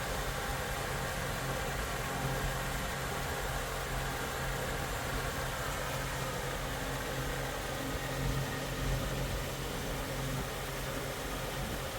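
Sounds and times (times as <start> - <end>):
constant hiss: 0.0 - 11.9
low mechanical hum: 0.0 - 11.9.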